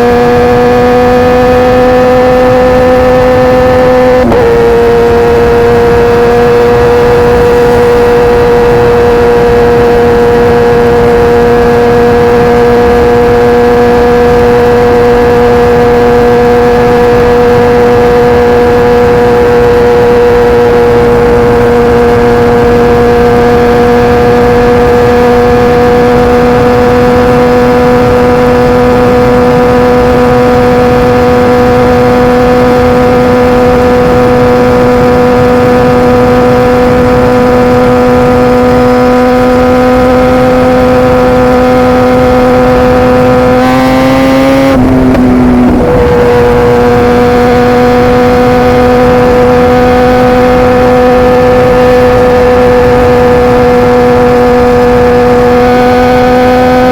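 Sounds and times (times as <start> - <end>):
motorcycle engine at high revs: 0.0 - 56.9
wind and road noise: 0.0 - 56.9.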